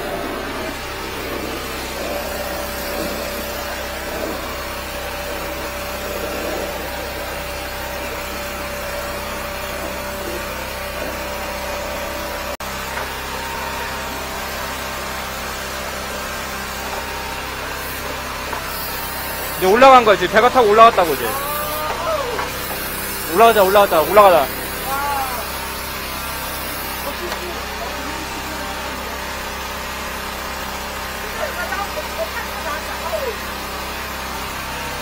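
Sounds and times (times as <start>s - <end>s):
sewer jetter engine and pump droning: 0.0s - 35.0s.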